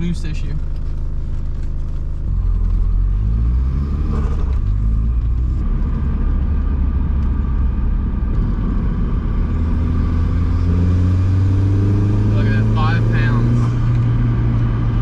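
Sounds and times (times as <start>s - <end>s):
turbocharged engine drone: 0.0s - 15.0s.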